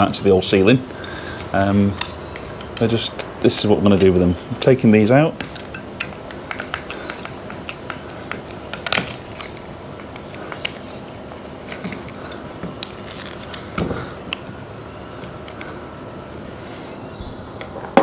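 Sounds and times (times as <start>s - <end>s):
wood cracking: 0.6s - 15.8s.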